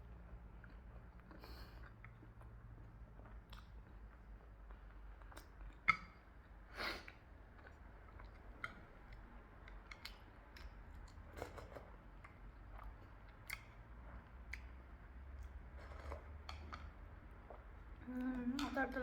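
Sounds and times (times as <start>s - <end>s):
chewing food: 0.0s - 19.0s.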